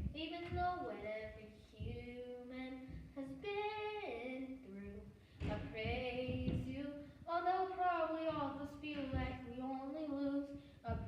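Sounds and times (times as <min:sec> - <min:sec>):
young voice singing: 0:00.0 - 0:11.0.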